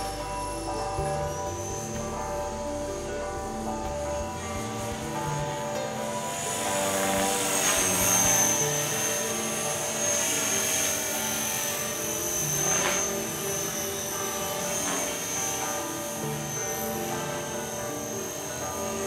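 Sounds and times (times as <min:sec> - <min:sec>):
background music: 0:00.0 - 0:19.0
rc helicopter motor whine: 0:00.0 - 0:19.0.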